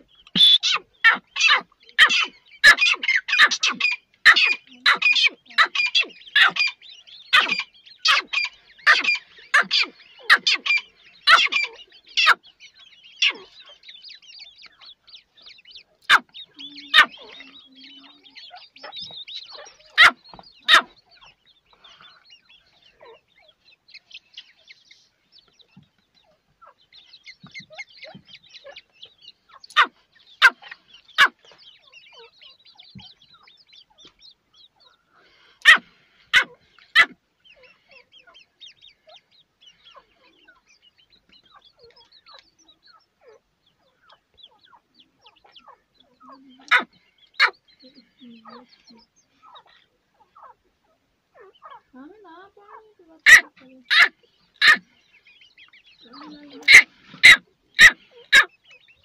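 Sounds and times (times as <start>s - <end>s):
chicks high peeping: 0.0s - 59.0s
francolin loud sharp calls: 0.0s - 59.0s.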